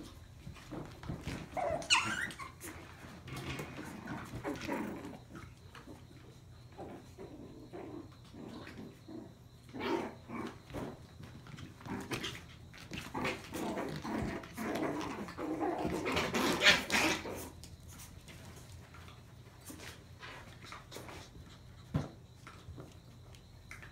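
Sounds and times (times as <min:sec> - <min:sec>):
puppies making play noises: 0:00.0 - 0:23.9.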